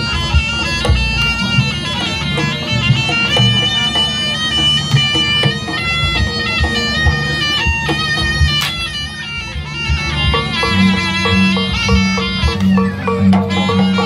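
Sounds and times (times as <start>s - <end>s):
drums: 0.0s - 14.0s
gamelan percussion: 0.0s - 14.0s
shawm melody: 0.0s - 14.0s.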